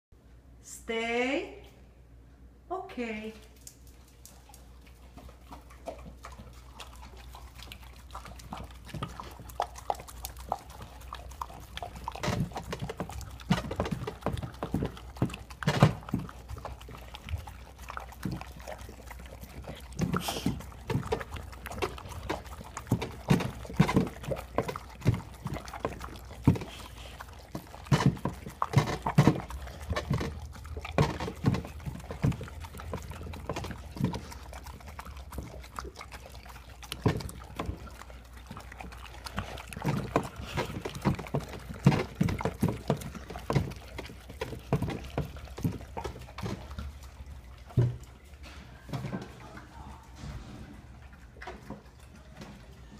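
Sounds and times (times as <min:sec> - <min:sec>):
dogs chewing and smacking: 0:03.4 - 0:52.9.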